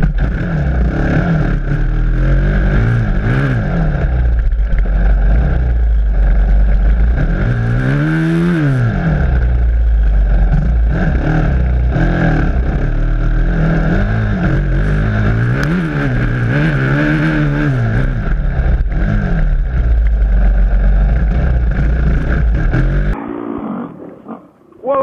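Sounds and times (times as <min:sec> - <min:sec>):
dirt bike engine revving: 0:00.0 - 0:23.2.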